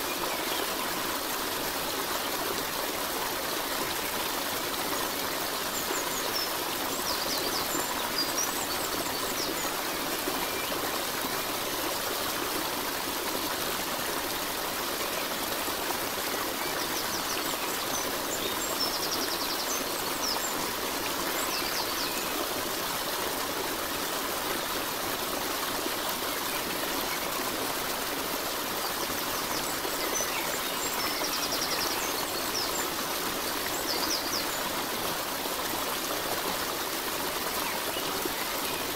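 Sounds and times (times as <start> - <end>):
stream of running water: 0.0 - 38.9.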